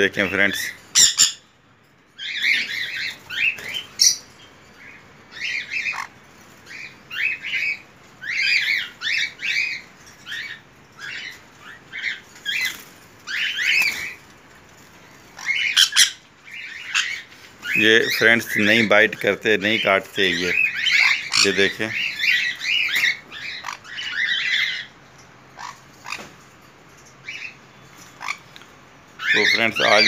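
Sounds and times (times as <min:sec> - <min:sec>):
parrots squawking: 0:00.1 - 0:01.6, 0:02.2 - 0:14.4, 0:15.0 - 0:26.4, 0:27.2 - 0:28.6, 0:29.2 - 0:30.0.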